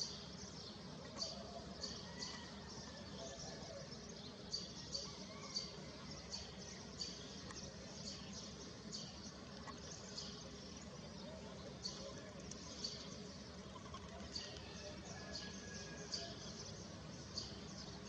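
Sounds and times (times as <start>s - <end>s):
low background noise: 0.0s - 18.0s
small birds chirping: 0.0s - 18.0s.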